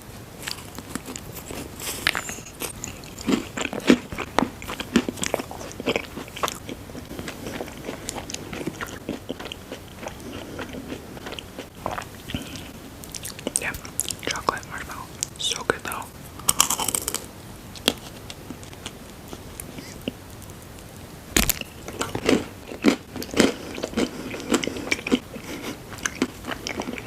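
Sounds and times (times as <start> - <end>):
biting and chewing candy: 0.4 - 14.4, 16.4 - 20.2, 21.4 - 27.0.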